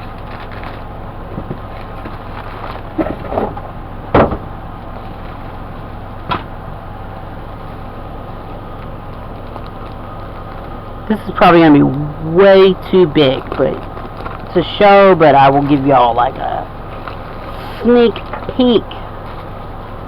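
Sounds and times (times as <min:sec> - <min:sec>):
rustling while unpacking: 0:00.0 - 0:11.4, 0:12.6 - 0:20.0
steady background hum: 0:00.0 - 0:20.0.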